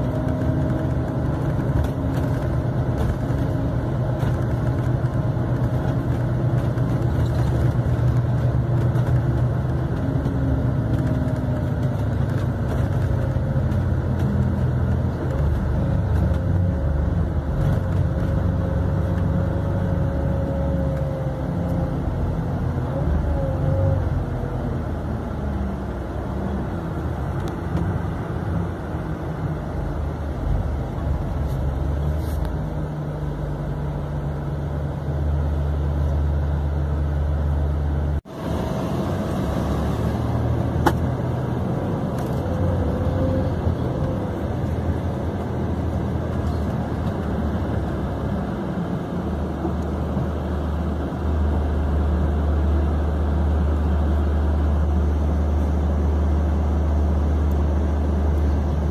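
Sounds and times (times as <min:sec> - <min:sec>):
coach engine rumbling: 0:00.0 - 0:58.9
road and cabin noise: 0:00.0 - 0:58.9.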